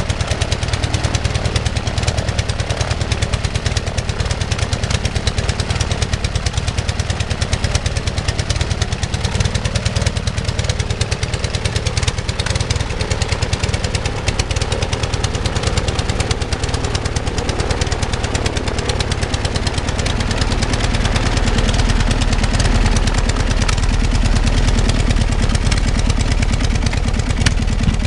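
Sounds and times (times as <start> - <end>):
propeller aircraft engine running: 0.0 - 28.0.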